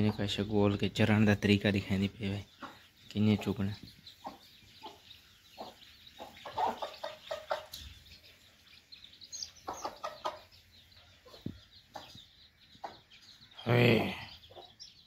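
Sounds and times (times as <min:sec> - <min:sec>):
chicks peeping: 0:00.0 - 0:15.0
hen clucking: 0:00.0 - 0:15.0.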